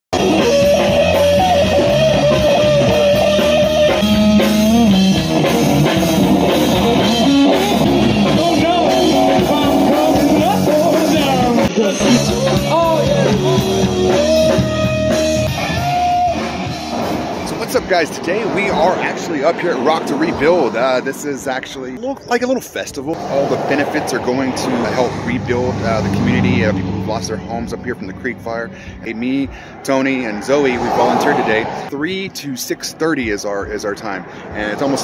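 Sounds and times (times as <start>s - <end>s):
rock band playing: 0.1s - 20.8s, 23.1s - 32.0s
bending guitar lead line: 0.2s - 35.0s.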